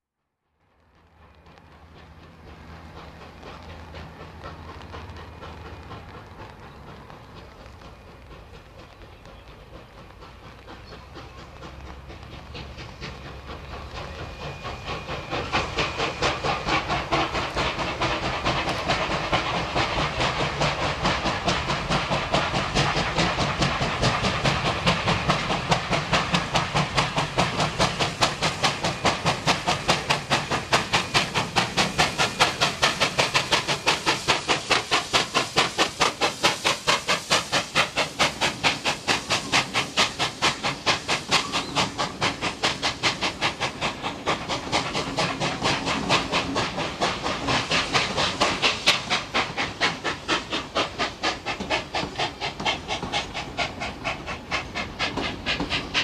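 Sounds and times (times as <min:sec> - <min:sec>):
steam hiss: 0:00.7 - 0:56.0
steam locomotive exhaust chuffing: 0:00.7 - 0:56.0.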